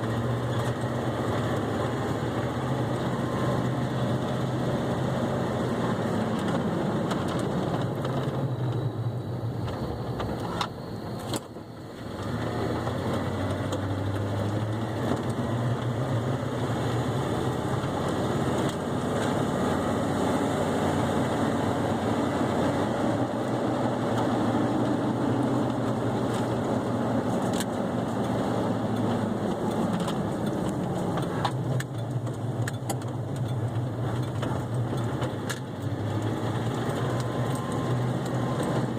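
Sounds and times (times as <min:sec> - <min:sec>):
pickup truck engine driving: 0:00.0 - 0:38.9.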